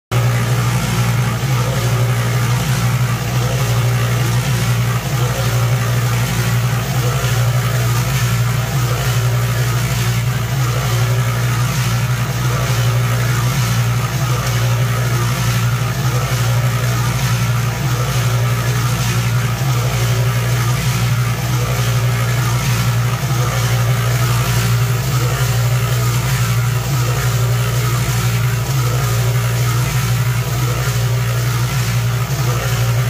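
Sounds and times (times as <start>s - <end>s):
concrete mixer motor humming: 0.1s - 33.0s
wet concrete churning: 0.1s - 33.0s.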